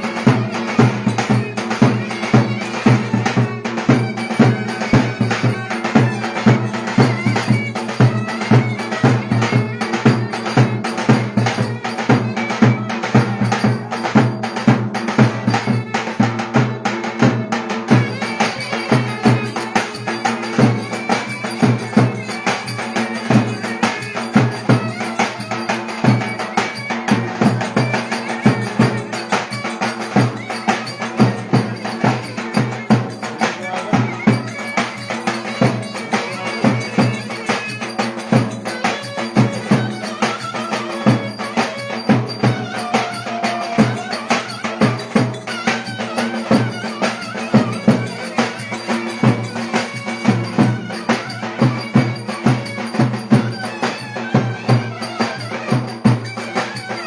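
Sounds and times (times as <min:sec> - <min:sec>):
shrill reed wind instrument: 0:00.0 - 0:57.0.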